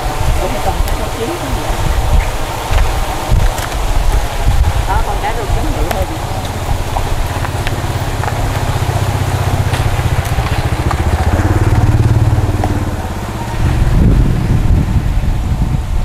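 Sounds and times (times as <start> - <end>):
small engine droning: 0.0 - 16.0.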